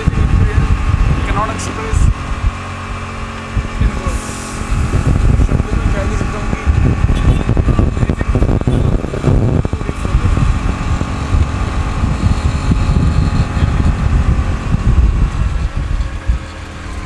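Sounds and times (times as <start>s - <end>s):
auto-rickshaw engine rumbling: 0.0s - 17.0s.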